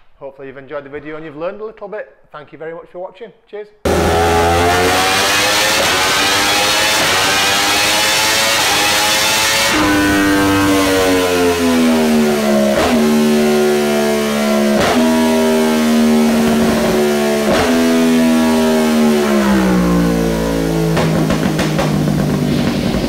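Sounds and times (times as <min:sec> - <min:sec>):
motorcycle engine on dyno: 0:03.9 - 0:23.0.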